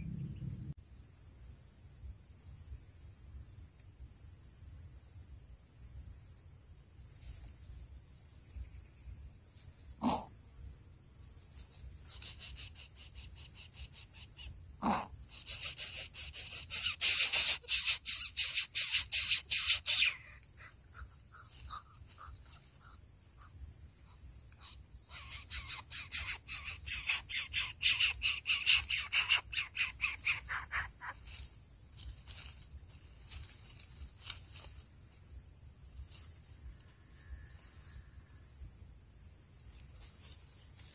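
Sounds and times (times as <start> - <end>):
cricket trilling: 7.0 - 40.9.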